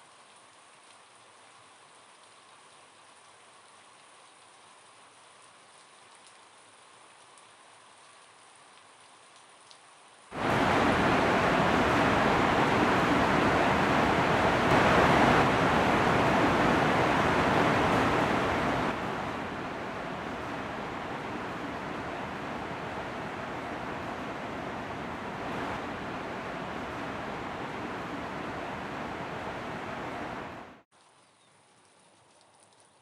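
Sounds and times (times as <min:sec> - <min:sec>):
heavy rain downpour: 0:00.0 - 0:30.9
faint steady hiss: 0:00.0 - 0:33.0.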